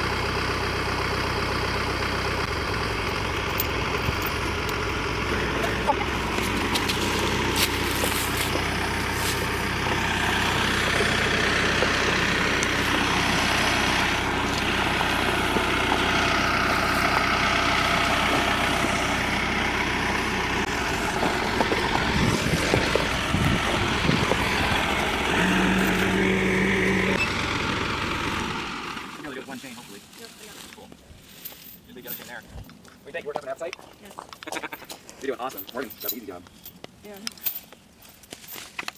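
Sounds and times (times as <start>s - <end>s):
tractor engine running: 0.0s - 33.4s.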